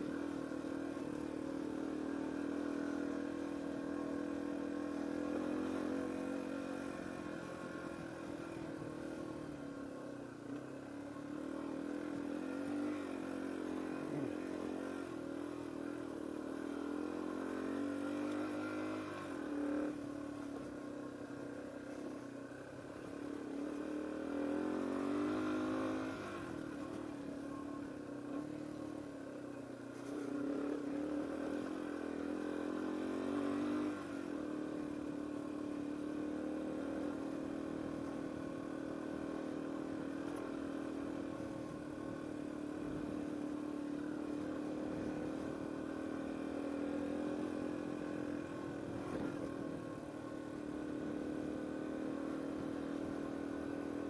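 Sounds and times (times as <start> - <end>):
motorcycle engine riding: 0.0 - 54.0.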